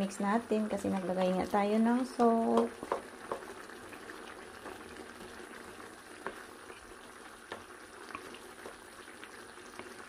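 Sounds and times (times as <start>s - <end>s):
thick sauce bubbling: 0.5s - 10.0s.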